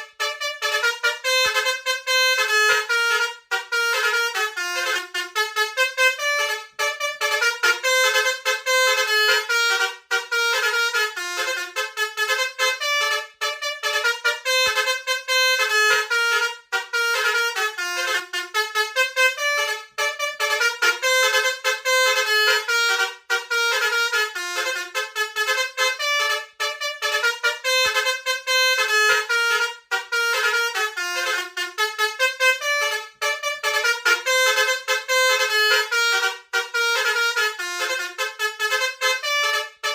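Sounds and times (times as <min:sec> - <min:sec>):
bus horn playing a tune: 0:00.0 - 0:39.9.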